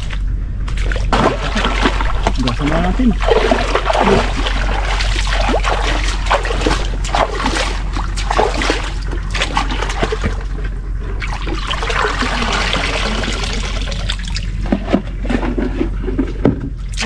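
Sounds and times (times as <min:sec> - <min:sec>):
water trickling and splashing: 0:00.0 - 0:10.5, 0:11.1 - 0:14.6.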